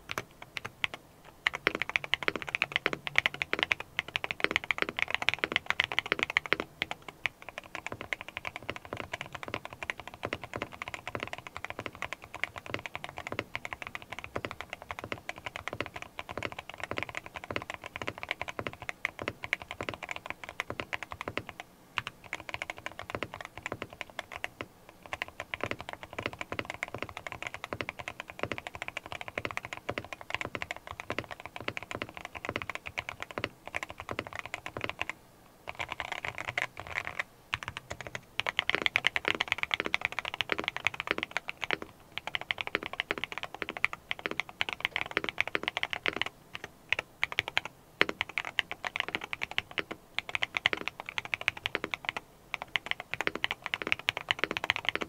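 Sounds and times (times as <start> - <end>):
crisp high-pitched keyboard clacks: 0.0 - 35.1, 35.7 - 55.0
fast mechanical keyboard typing: 0.0 - 35.1, 35.7 - 55.0.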